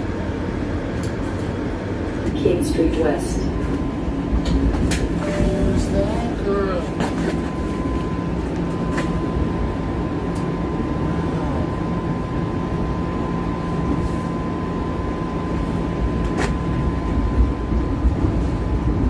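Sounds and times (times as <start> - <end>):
high equipment hum: 0.0 - 19.0
streetcar cabin low rumble: 0.0 - 19.0.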